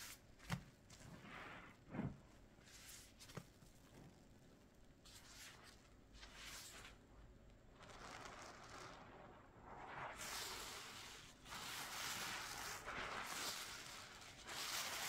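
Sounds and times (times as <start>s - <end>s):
sponge squishing in lather: 0.0s - 7.0s, 7.6s - 15.0s.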